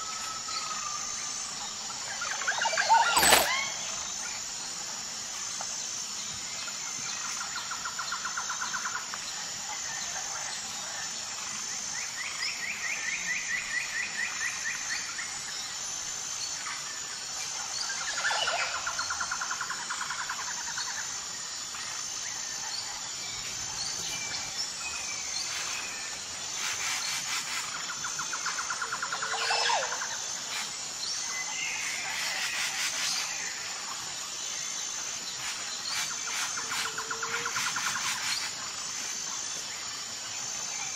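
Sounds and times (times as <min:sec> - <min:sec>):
insects chirping: 0:00.0 - 0:40.9.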